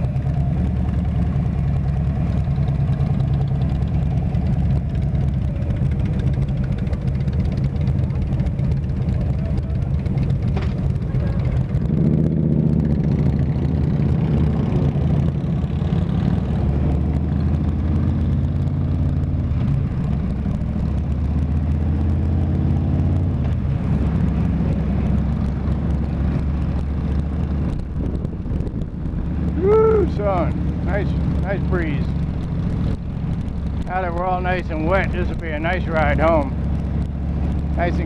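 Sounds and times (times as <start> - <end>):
motorcycle engine pulling away: 0.0 - 38.0.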